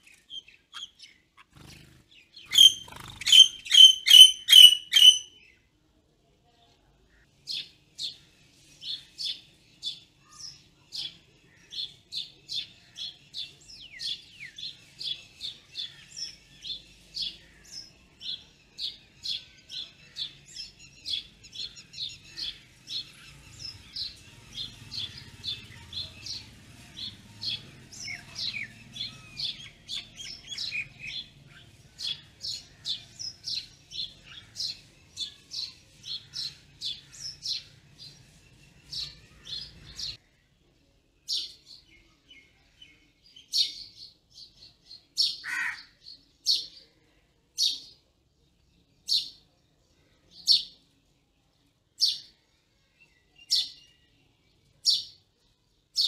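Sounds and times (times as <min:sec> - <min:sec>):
birds chirping: 0:00.0 - 0:05.7, 0:07.1 - 0:51.0, 0:53.0 - 0:55.2.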